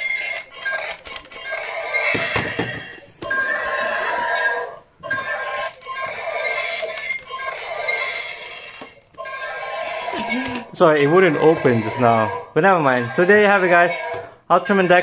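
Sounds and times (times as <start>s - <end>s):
toy electronic music and effects: 0.0s - 15.0s.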